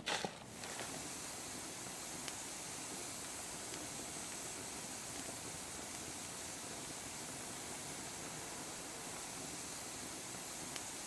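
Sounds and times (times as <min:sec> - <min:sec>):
fire crackling: 0:00.1 - 0:11.0
campfire hissing: 0:00.4 - 0:11.0.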